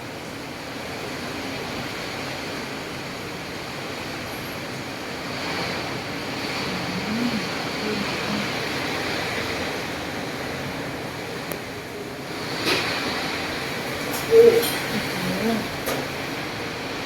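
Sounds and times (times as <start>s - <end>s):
rain falling in strong wind: 0.0s - 17.0s.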